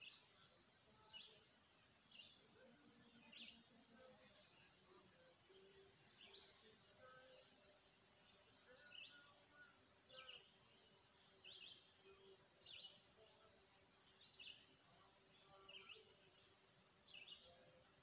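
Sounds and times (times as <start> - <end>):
faint bird chirps: 0.0 - 18.0
faint steady hum: 0.0 - 18.0.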